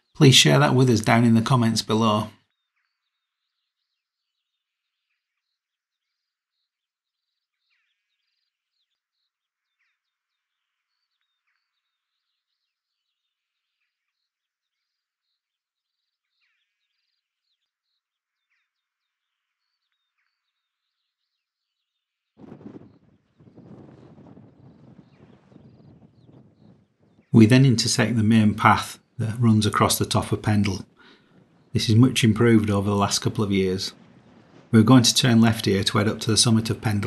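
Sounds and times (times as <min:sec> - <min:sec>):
faint bird chirps and trills: 0:00.0 - 0:37.0.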